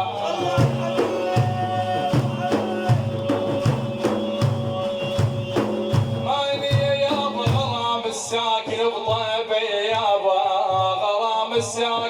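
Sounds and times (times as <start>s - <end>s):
drums beating: 0.0s - 12.0s.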